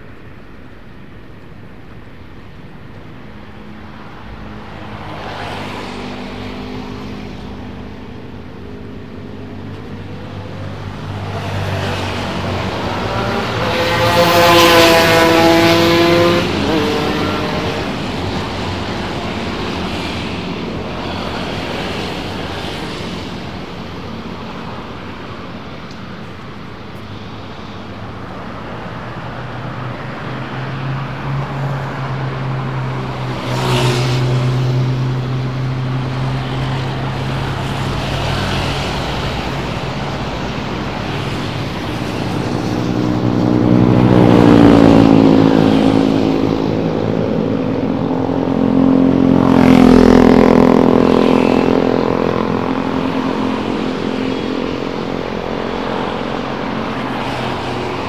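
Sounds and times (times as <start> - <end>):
traffic hum of engines and tyres: 0.0 - 58.0
vehicle passing close: 4.0 - 26.2, 27.1 - 58.0.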